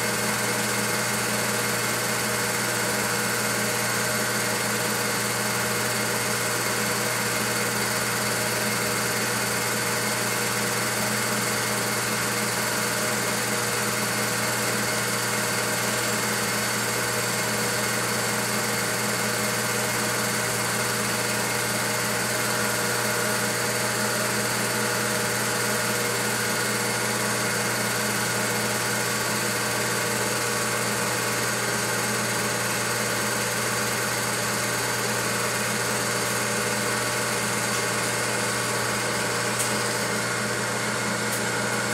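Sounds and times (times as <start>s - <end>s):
film projector whirring: 0.0s - 41.9s.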